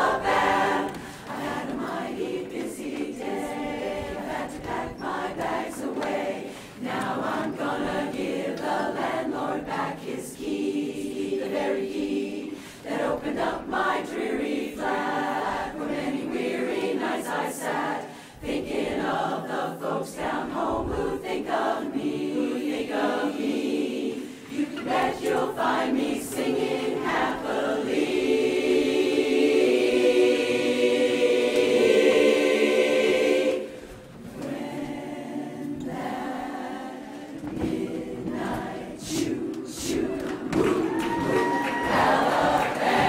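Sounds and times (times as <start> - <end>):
women's chorus singing a cappella: 0.0 - 43.0.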